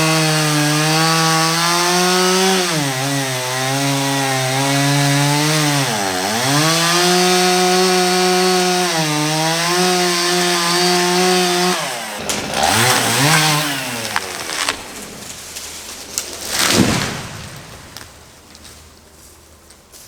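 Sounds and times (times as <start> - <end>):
chainsaw cutting tree: 0.0 - 19.2.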